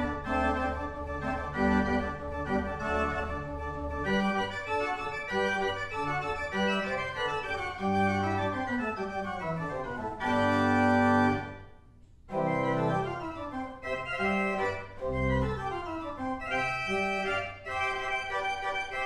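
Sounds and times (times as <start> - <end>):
pipe organ playing: 0.0 - 11.7, 12.3 - 19.0.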